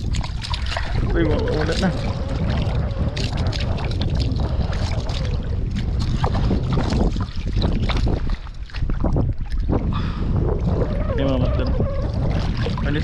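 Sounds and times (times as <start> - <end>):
water splashing: 0.0 - 13.0
wind buffeting microphone: 0.0 - 13.0.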